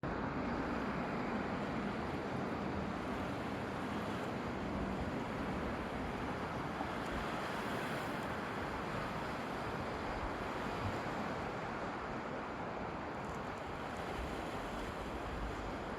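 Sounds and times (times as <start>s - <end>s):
sea surf washing on shore: 0.1s - 15.9s.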